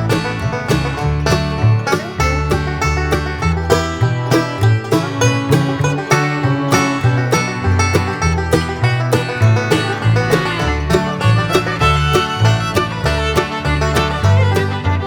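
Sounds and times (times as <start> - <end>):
upbeat bluegrass tune: 0.0 - 15.0.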